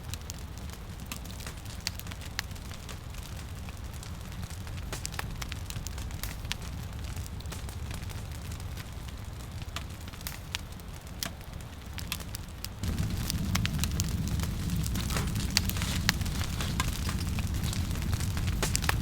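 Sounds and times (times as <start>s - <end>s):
firewood crackling and popping: 0.0s - 19.0s
low steady fire rumble: 0.0s - 19.0s.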